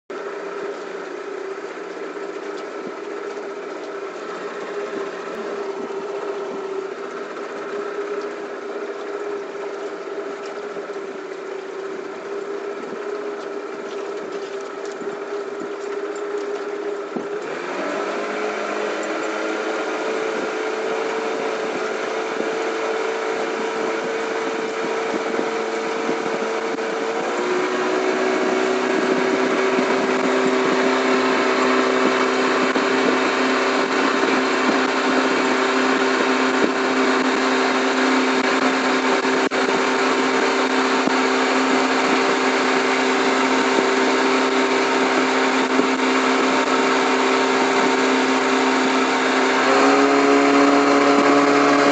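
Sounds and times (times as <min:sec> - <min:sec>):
outboard motor running: 0:00.0 - 0:51.9.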